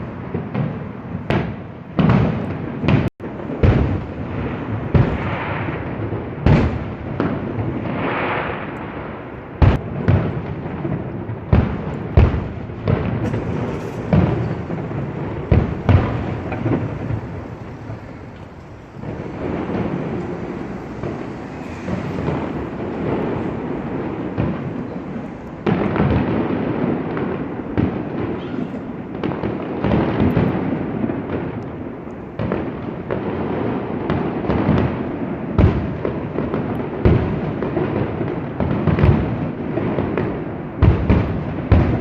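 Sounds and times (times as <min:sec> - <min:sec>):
fireworks bangs and booms: 0:00.0 - 0:42.0
fireworks crackling: 0:00.0 - 0:42.0.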